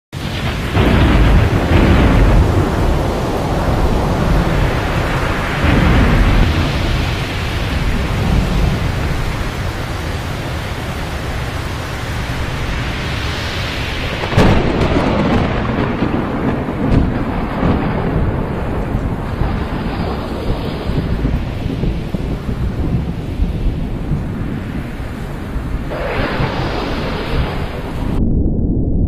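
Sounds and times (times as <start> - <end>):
heavy rain: 0.1 - 28.3
sharp thunder crack: 0.1 - 29.0
deep rolling thunder: 0.2 - 29.0.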